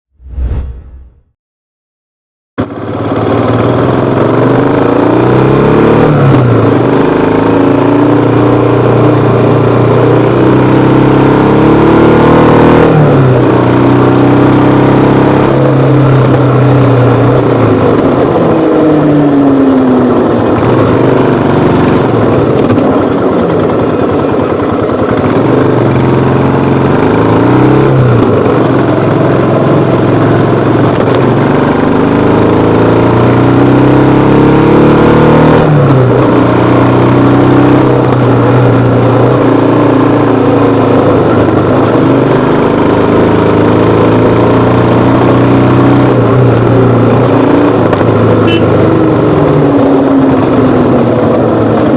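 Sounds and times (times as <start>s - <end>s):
motorcycle engine accelerating: 2.6s - 51.9s.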